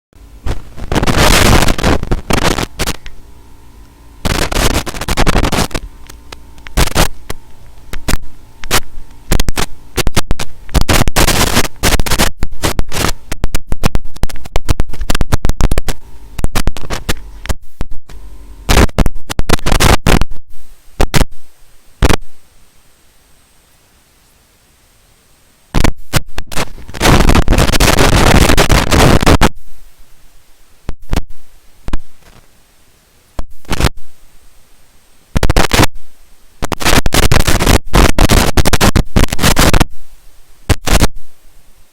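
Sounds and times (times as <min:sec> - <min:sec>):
faint steady hum: 0:00.2 - 0:41.9
static crackle bursts: 0:00.2 - 0:41.9.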